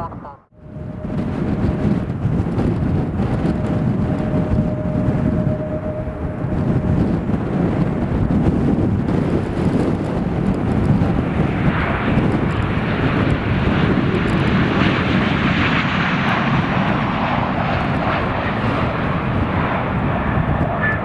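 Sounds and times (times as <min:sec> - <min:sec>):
airplane engines running: 0:00.0 - 0:21.0
wind rumble on microphone: 0:00.0 - 0:21.0.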